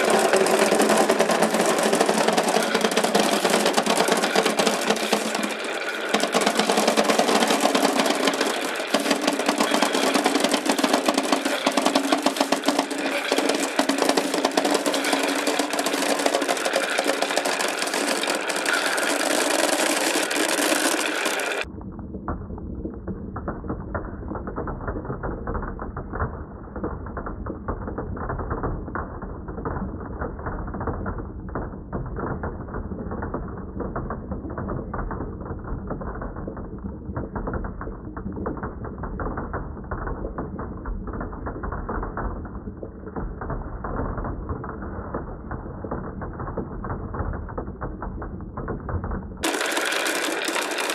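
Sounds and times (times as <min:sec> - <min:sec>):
marbles rattling down wooden run: 0:00.0 - 0:21.7, 0:29.6 - 0:50.9.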